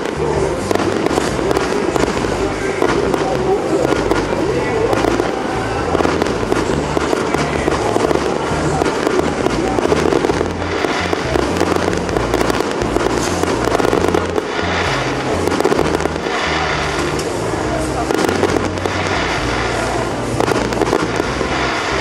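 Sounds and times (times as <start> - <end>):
fireworks crackling and popping: 0.0 - 22.0
music playing: 0.0 - 22.0.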